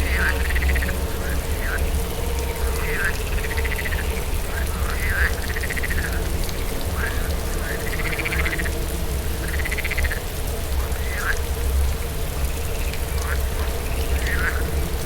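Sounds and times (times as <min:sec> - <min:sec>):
frogs croaking: 0:00.0 - 0:15.0
low wind rumble: 0:00.0 - 0:15.0
steady rain: 0:00.0 - 0:15.0.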